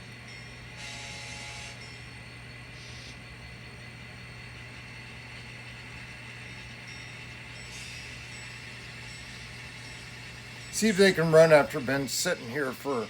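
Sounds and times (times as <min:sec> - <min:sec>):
constant low hum: 0:00.0 - 0:13.0
model train motor whirring: 0:00.0 - 0:13.0.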